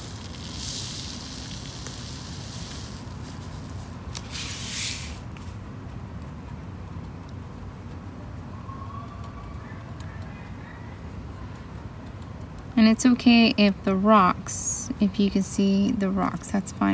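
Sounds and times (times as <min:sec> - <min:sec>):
low background hum: 0:00.0 - 0:16.9.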